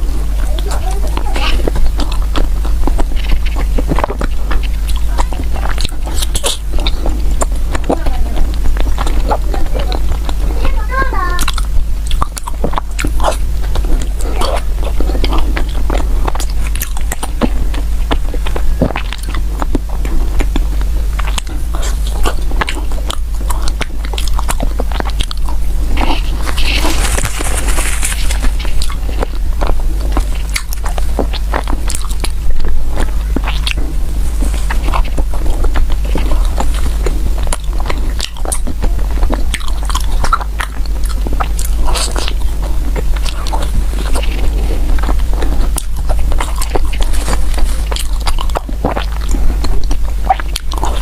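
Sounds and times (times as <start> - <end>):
person chewing food: 0.0 - 51.0
steady low hum: 0.0 - 51.0.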